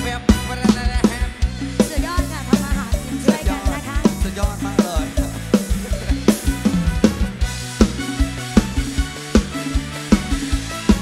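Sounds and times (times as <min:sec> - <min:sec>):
bending lead melody: 0:00.0 - 0:11.0
deep bass line: 0:00.0 - 0:11.0
drum kit fast beat: 0:00.0 - 0:11.0.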